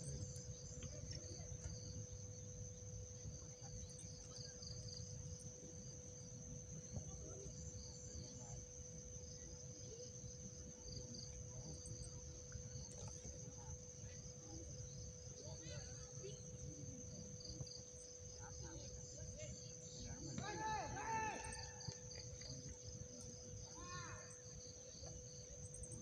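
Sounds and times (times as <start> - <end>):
faint low hum: 0.0 - 26.0
insects trilling: 0.0 - 26.0.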